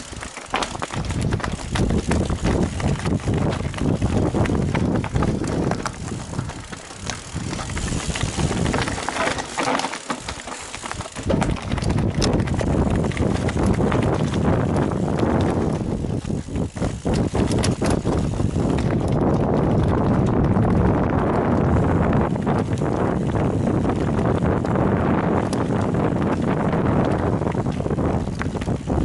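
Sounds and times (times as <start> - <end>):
bike rattling and knocking: 0.0 - 29.0
bike tyre noise on dirt trail: 0.0 - 29.0.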